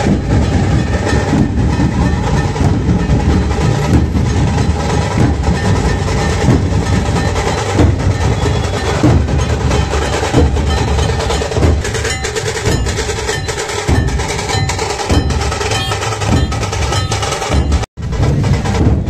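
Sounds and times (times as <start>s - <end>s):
dhol drums beating: 0.0s - 19.0s.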